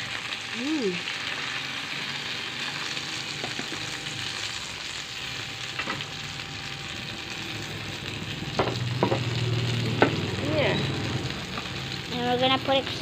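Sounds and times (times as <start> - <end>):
chicken sizzling in pan: 0.0 - 13.0.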